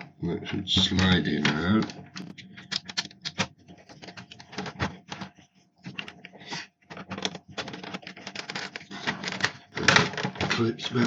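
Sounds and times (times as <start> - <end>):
plastic clicks and rattles: 0.0 - 11.0.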